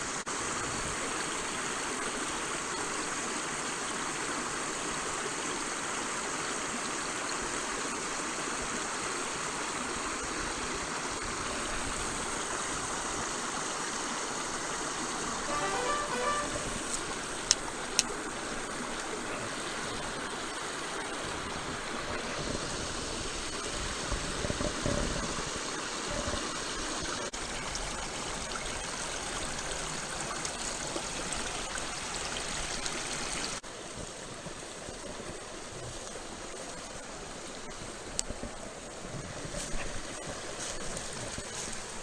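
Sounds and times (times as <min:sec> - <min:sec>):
creek running over rocks: 0:00.0 - 0:42.0.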